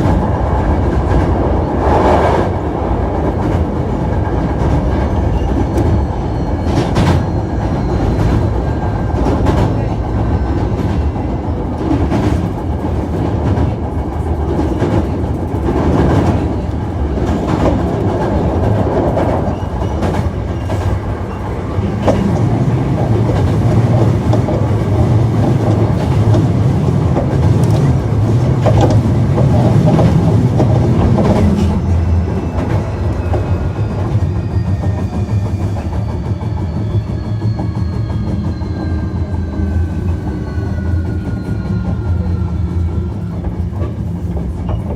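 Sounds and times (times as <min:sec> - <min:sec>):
train wheels rumbling: 0:00.0 - 0:44.9.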